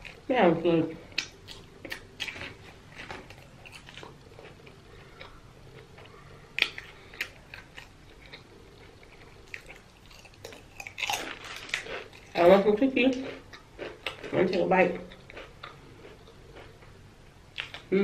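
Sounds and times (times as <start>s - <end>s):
person chewing food: 1.0s - 14.4s, 15.0s - 17.9s.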